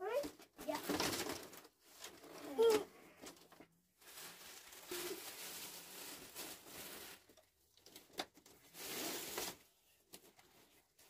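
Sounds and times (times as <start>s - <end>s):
plastic bag rustling: 0.6s - 11.0s.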